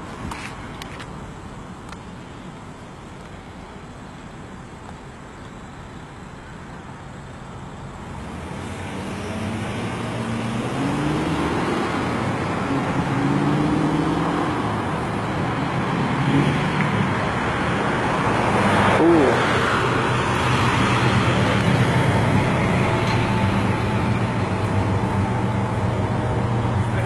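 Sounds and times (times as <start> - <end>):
car engine and tyre noise: 0.0 - 27.0.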